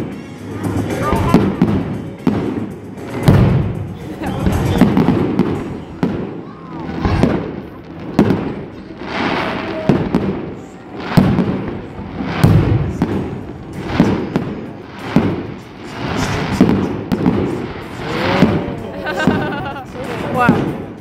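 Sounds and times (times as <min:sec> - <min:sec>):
fireworks booming: 0:00.0 - 0:21.0
fireworks crackling: 0:00.0 - 0:21.0.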